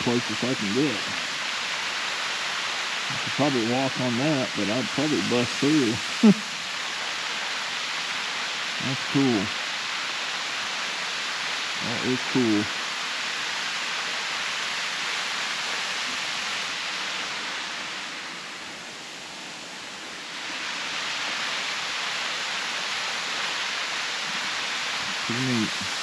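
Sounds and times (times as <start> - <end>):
waterfall splashing into pool: 0.0 - 26.0.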